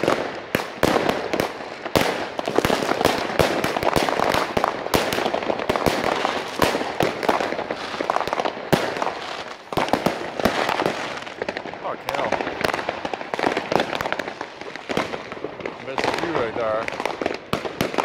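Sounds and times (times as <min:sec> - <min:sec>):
firecrackers crackling: 0:00.0 - 0:18.0
fireworks banging: 0:00.0 - 0:18.0.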